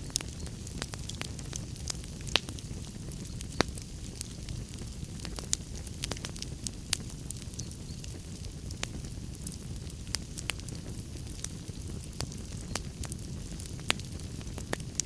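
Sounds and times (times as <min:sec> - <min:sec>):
sharp pops from fire: 0:00.0 - 0:15.0
wood fire rumbling and crackling: 0:00.0 - 0:15.0.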